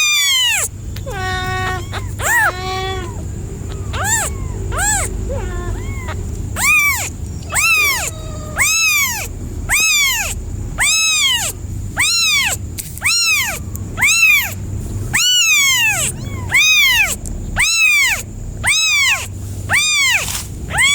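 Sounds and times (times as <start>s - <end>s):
kitten meowing: 0.0s - 20.9s.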